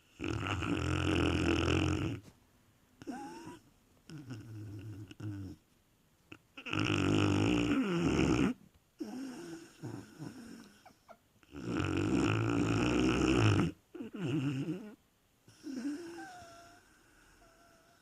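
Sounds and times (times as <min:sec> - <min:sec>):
dog snoring: 0:00.0 - 0:02.3, 0:03.0 - 0:05.6, 0:06.6 - 0:18.0.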